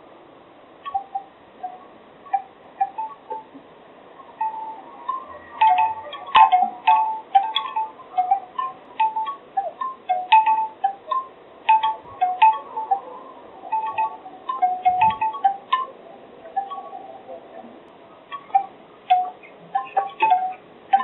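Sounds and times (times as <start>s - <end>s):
bamboo wind chimes knocking: 0.8s - 3.7s, 4.4s - 17.0s, 18.2s - 21.0s.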